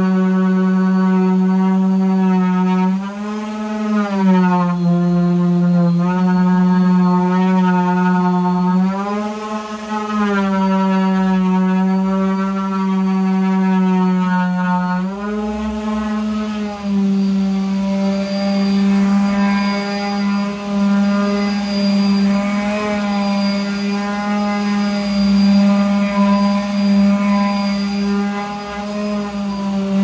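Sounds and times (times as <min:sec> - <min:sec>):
orbital sander whine: 0:00.0 - 0:30.0.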